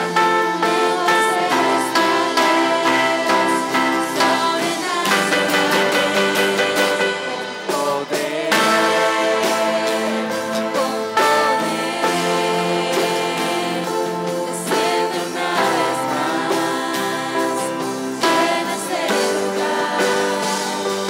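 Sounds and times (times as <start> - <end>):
electric and acoustic guitars: 0.0 - 21.0
keyboard: 0.0 - 21.0
voices singing: 0.0 - 21.0.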